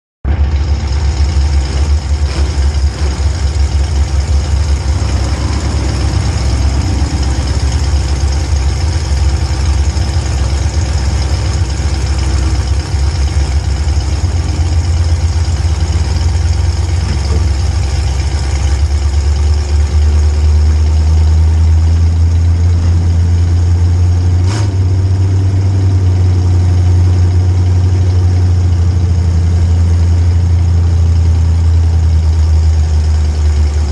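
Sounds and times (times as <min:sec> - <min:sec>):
engine idling with low hum: 0:00.2 - 0:33.9.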